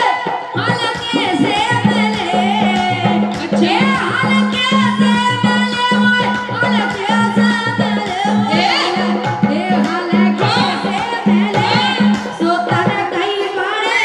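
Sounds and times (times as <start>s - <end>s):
steady drum beat: 0.0s - 14.0s
woman singing into microphone: 0.0s - 14.0s.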